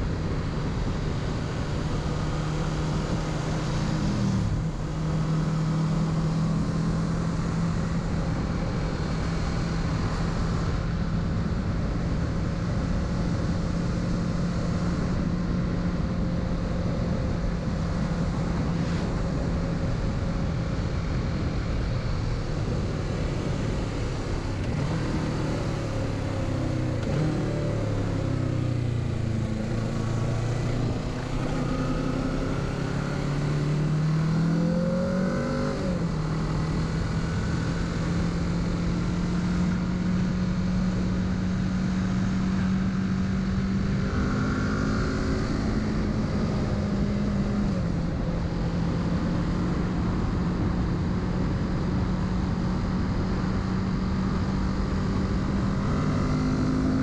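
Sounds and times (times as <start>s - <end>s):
motorcycle engine: 1.6s - 57.0s.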